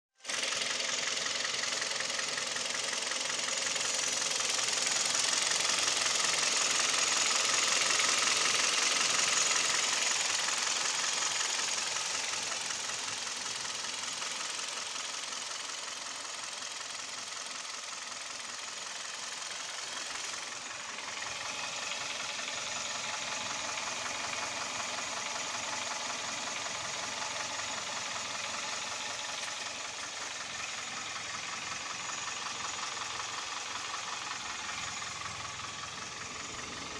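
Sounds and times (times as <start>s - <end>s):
car engine knocking: 0.2s - 36.9s.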